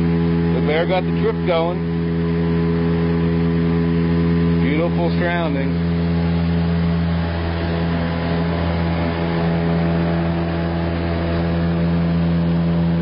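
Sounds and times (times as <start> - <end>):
engine droning steadily: 0.0 - 13.0.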